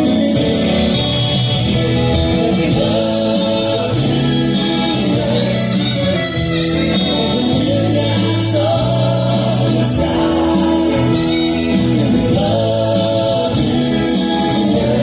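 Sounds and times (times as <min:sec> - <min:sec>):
soft rock band playing: 0:00.0 - 0:15.0
voices singing together: 0:00.0 - 0:15.0.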